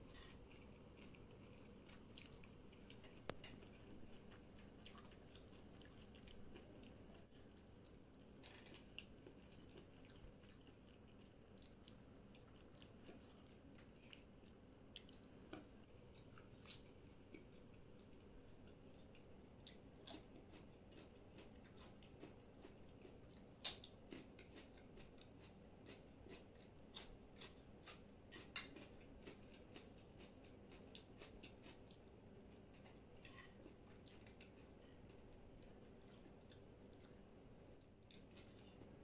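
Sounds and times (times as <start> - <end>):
person chewing crisp food: 0.0 - 39.0.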